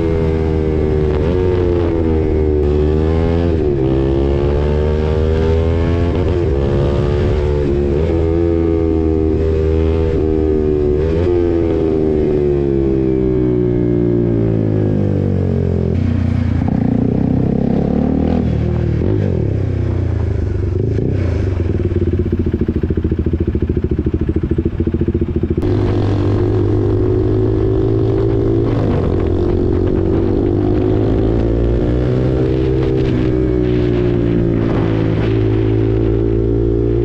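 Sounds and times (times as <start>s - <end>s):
motorcycle engine: 0.0s - 37.0s.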